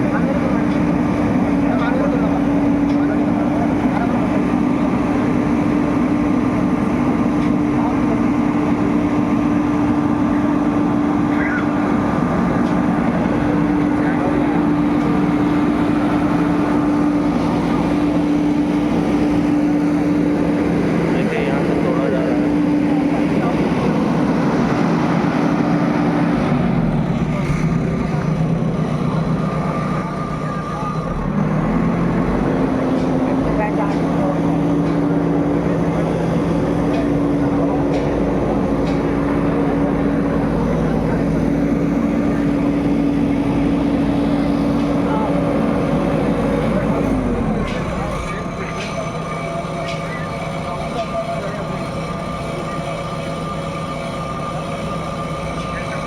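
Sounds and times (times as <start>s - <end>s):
chatter of voices: 0.0s - 56.0s
diesel engine running: 0.0s - 56.0s.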